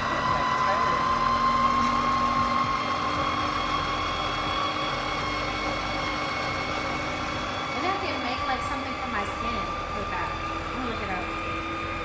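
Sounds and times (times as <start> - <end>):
juicer motor whining: 0.0 - 12.0.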